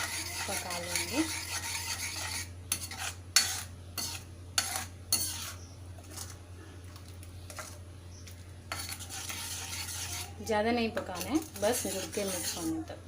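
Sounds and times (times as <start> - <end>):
spoon scraping a pan: 0.0 - 12.9.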